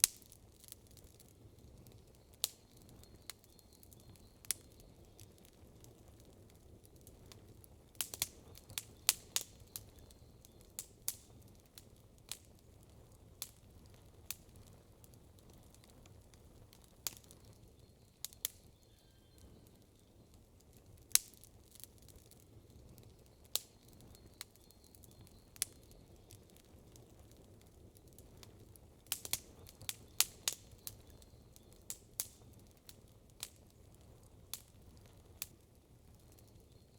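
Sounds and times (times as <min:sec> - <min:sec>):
campfire pops and snaps: 0:00.0 - 0:17.6, 0:18.2 - 0:18.6, 0:20.6 - 0:36.6
low steady hiss: 0:00.0 - 0:36.9.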